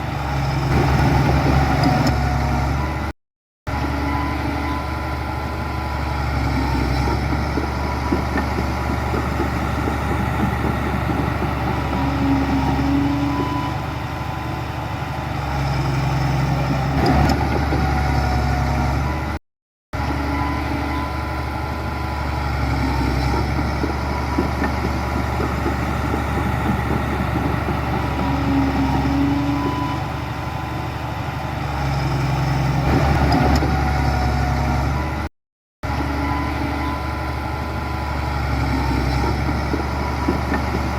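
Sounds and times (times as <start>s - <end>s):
heavy diesel engine running: 0.0s - 3.1s, 3.7s - 19.4s, 20.0s - 40.9s.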